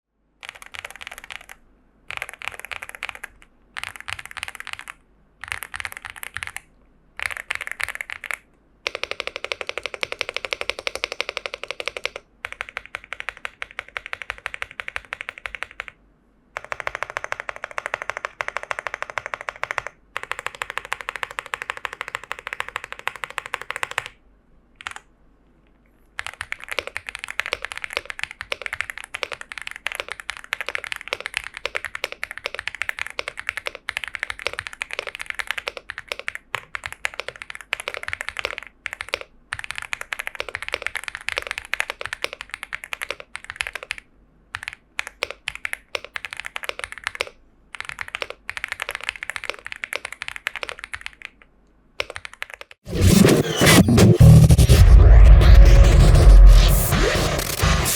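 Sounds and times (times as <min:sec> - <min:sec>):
fast typing on mechanical keyboard: 0:00.4 - 0:16.0, 0:16.6 - 0:24.2, 0:24.8 - 0:25.1, 0:26.1 - 0:52.8.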